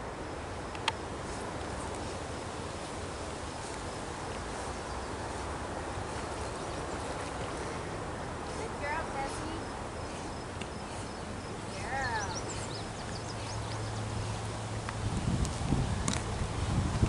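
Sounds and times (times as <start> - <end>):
low rumbling hiss: 0.0 - 17.0.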